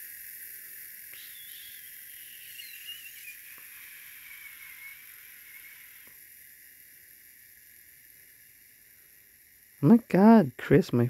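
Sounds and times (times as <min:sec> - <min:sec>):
dental handpiece whine: 0:00.0 - 0:11.0
steady hiss: 0:00.0 - 0:11.0.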